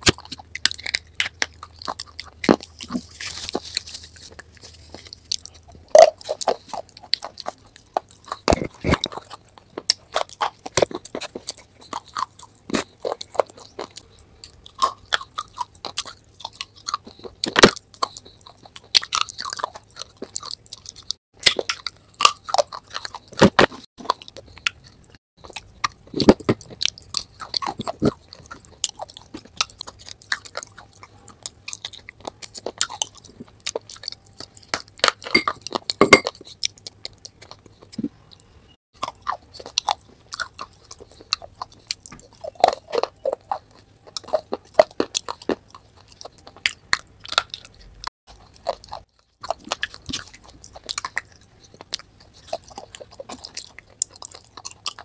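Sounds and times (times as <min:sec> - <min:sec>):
biting and chewing crunchy pieces: 0:00.0 - 0:55.0.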